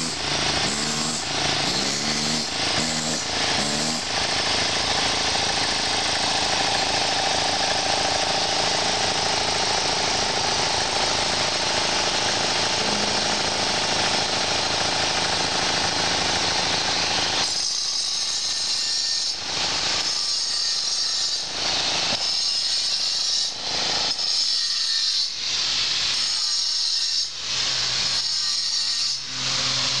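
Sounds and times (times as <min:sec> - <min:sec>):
power tool grinding stone: 0:00.0 - 0:30.0.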